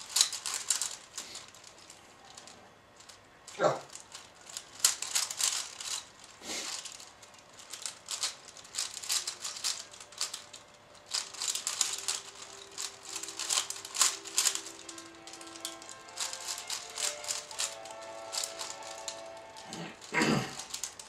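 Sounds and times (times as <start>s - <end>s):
faint music: 0.0s - 21.0s
puzzle cube clicking and rattling: 0.0s - 21.0s.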